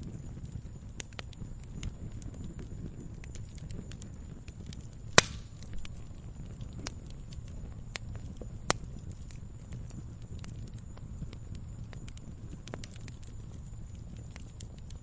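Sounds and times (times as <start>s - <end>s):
firewood crackling and popping: 0.0s - 15.0s
low rumble of flame: 0.0s - 15.0s.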